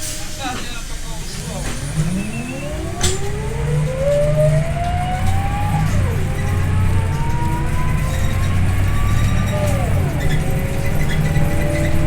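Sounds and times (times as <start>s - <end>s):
bus engine drone: 0.0s - 12.0s
drivetrain whine: 1.4s - 12.0s.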